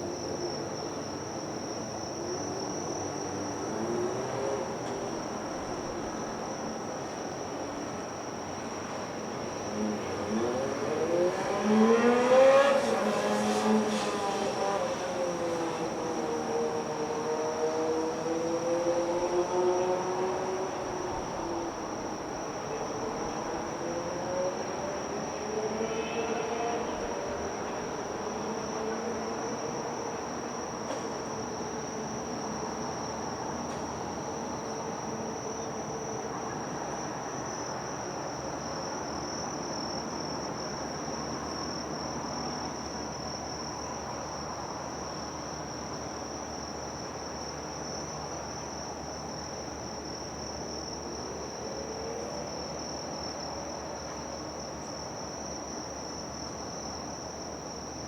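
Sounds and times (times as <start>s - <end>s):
crickets high-pitched drone: 0.0s - 58.0s.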